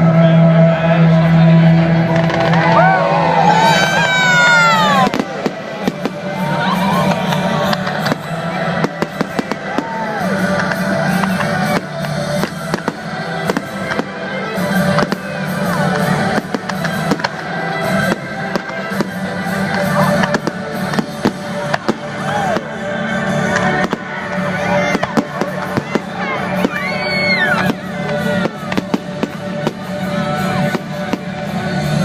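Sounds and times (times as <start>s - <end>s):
music: 0.0s - 32.0s
fireworks bangs and crackles: 1.3s - 32.0s
fireworks whistles: 3.5s - 32.0s.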